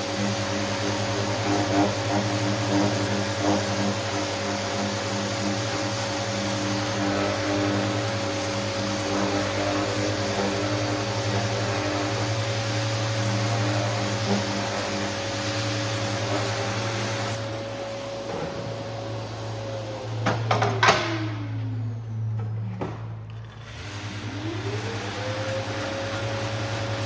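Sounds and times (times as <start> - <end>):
power tool motor whining: 0.0 - 27.0.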